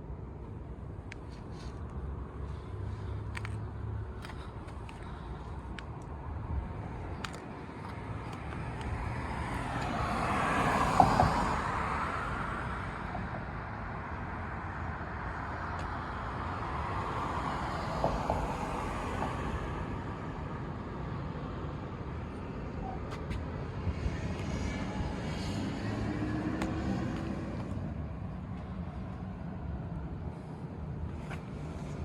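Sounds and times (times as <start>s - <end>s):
vehicle noise: 0.0s - 32.0s.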